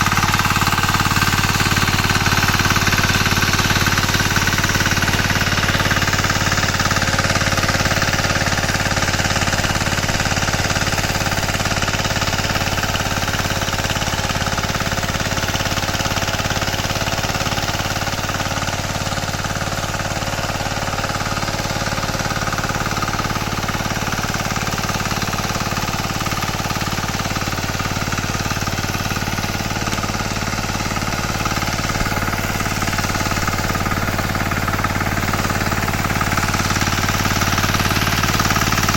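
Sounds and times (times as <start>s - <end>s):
power tiller engine running: 0.0s - 38.9s.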